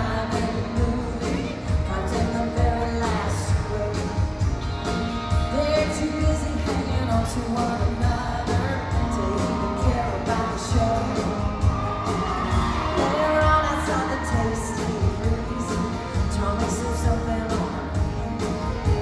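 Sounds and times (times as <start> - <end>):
woman singing into microphone: 0.0 - 4.5, 5.5 - 11.8, 12.6 - 19.0
live country band playing: 0.0 - 19.0.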